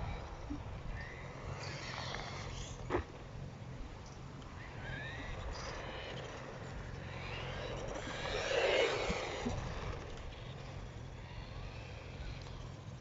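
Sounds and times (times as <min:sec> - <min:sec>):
low wind rumble: 0:00.0 - 0:13.0
toy car electric motor whine: 0:00.1 - 0:03.1, 0:04.5 - 0:13.0.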